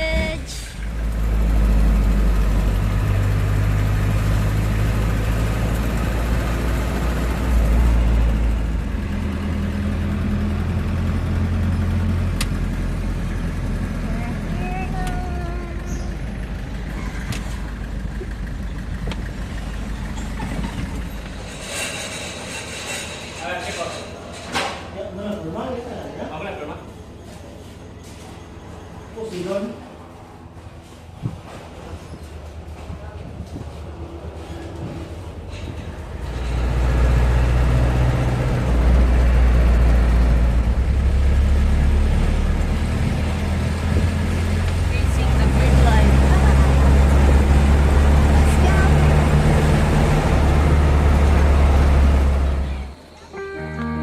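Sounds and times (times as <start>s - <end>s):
vehicle engine rumbling: 0.0s - 53.3s.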